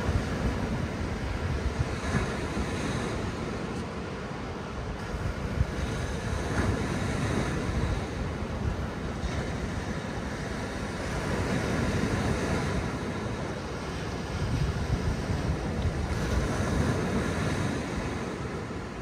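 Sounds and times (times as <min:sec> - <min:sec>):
small waves breaking on beach: 0:00.0 - 0:19.0
wind rumbling on microphone: 0:00.0 - 0:19.0.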